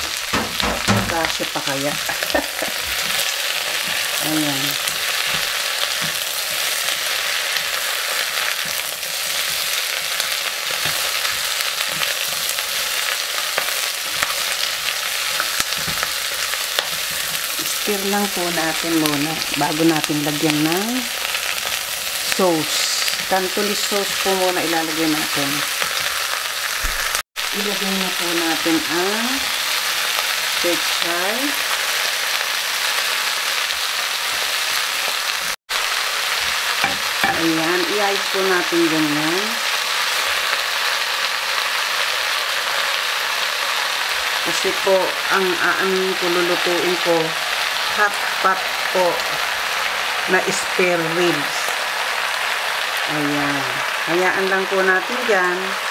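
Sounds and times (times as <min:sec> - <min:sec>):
vegetables sizzling in a pot: 0:00.0 - 0:55.9.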